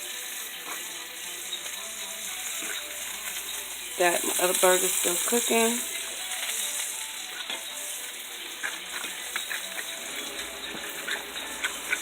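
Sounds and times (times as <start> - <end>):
patties sizzling in a frying pan: 0.0 - 12.0.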